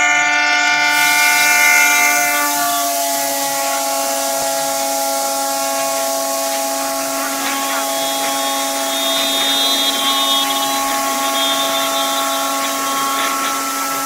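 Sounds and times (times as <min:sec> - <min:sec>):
train horn sounding: 0:00.0 - 0:14.0
passing train rushing: 0:00.8 - 0:14.0.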